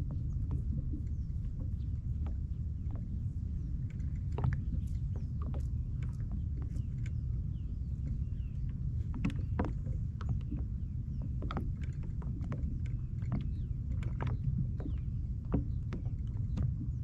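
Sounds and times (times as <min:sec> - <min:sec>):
clicks and knocks of gear and hull: 0:00.0 - 0:17.0
steady low rumble: 0:00.0 - 0:17.0.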